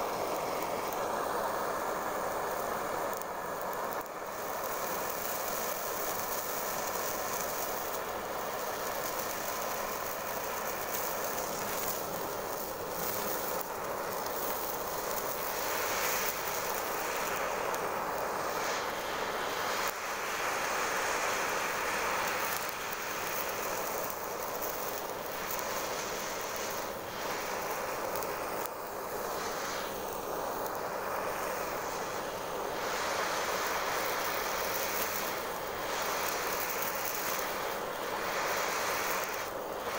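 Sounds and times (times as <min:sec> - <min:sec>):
gas torch flame hissing: 0:00.0 - 0:39.9.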